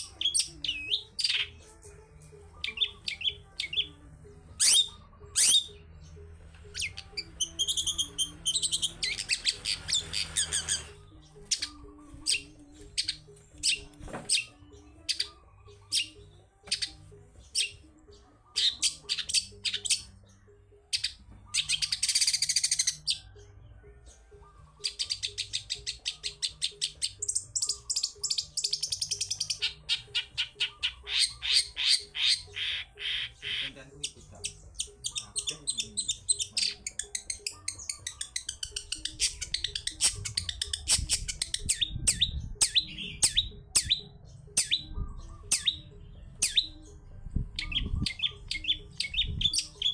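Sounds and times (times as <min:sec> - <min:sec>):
bird singing varied chirps and trills: 0:00.0 - 0:49.9.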